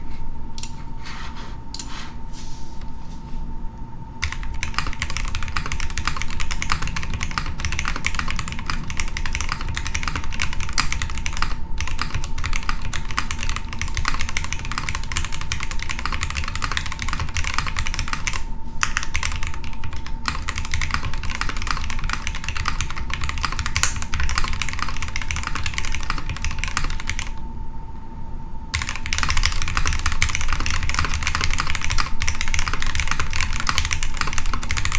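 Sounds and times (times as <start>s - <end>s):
faint steady hum: 0.0s - 34.9s
fast typing on mechanical keyboard: 4.2s - 27.4s, 28.8s - 34.9s.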